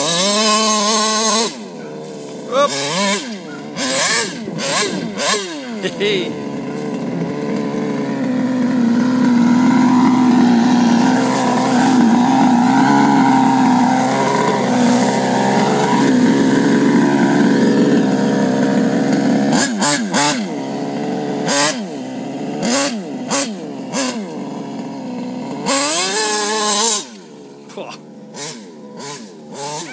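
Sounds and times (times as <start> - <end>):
two-stroke engine revving high: 0.0 - 29.9.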